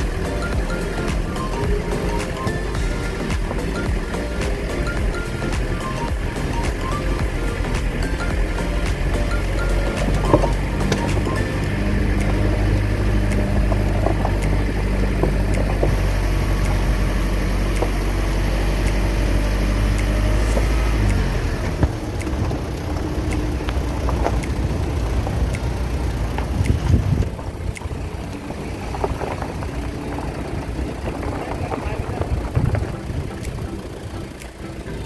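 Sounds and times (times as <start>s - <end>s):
rough engine rumble: 0.0s - 35.0s
vehicle engine humming: 0.0s - 35.0s.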